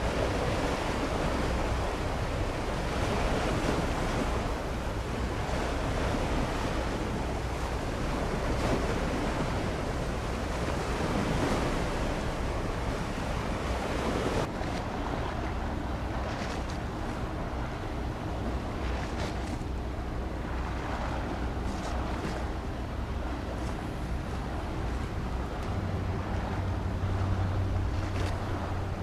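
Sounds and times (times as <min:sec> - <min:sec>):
sea water washing: 0:00.0 - 0:29.0
wind on microphone: 0:00.0 - 0:29.0.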